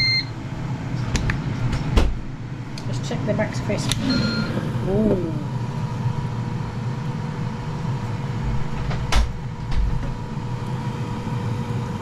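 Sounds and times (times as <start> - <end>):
air fryer fan hum: 0.0 - 12.0.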